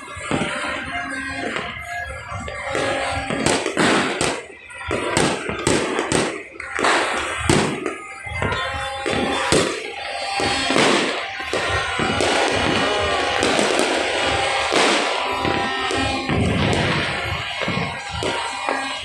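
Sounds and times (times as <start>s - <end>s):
fireworks bangs: 0.0s - 19.0s
music: 0.0s - 19.0s.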